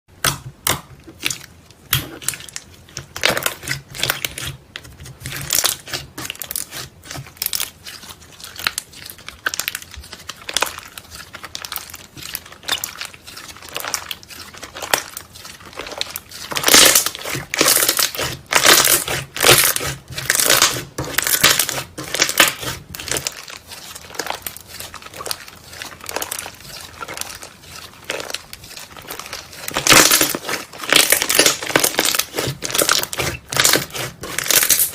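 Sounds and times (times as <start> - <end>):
hands squishing slime: 0.2 - 34.9.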